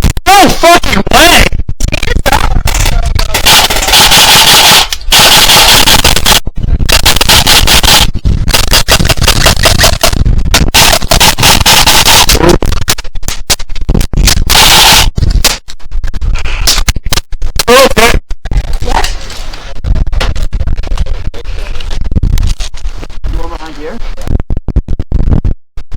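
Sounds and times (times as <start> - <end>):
wind buffeting microphone: 0.0 - 5.2, 5.8 - 25.6.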